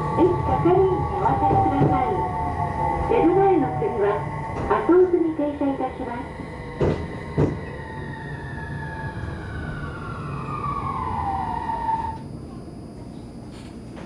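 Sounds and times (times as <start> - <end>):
tram motors whining: 0.0 - 14.0.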